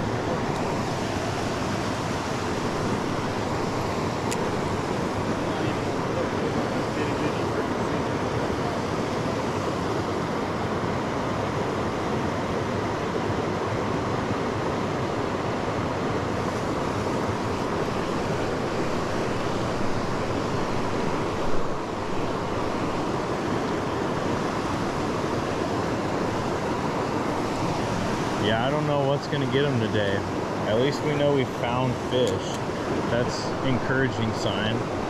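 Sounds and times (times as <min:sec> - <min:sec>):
river current rushing: 0:00.0 - 0:35.0.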